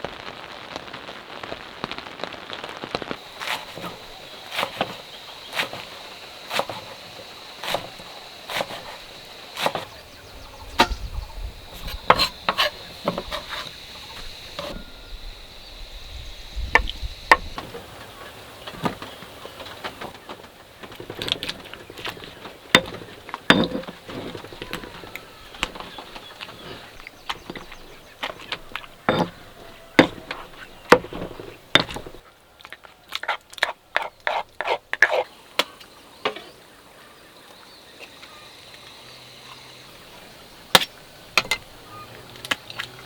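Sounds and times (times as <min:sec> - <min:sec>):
high insect drone: 0:03.2 - 0:20.2, 0:22.1 - 0:32.2, 0:35.1 - 0:43.0.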